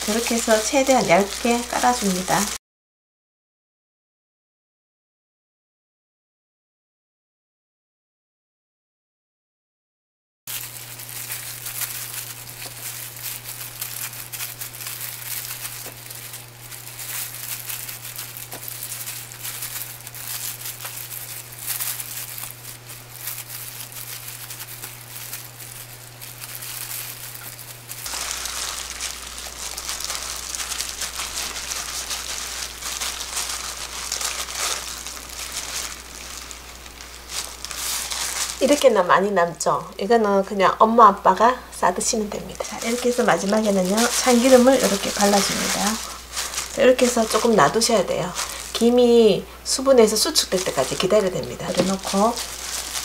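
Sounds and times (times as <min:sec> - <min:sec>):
dried seaweed rustling: 0:00.0 - 0:02.6, 0:10.5 - 0:39.7, 0:41.8 - 0:53.0
plastic gloves crinkling: 0:00.0 - 0:02.6, 0:10.5 - 0:53.0
steady low hum: 0:10.5 - 0:53.0.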